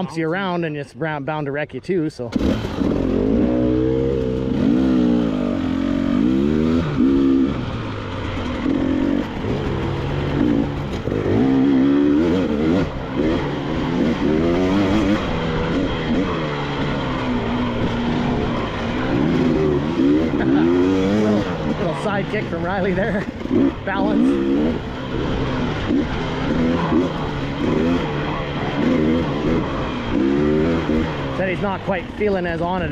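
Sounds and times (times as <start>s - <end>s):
dirt bike engine revving: 2.3s - 32.9s.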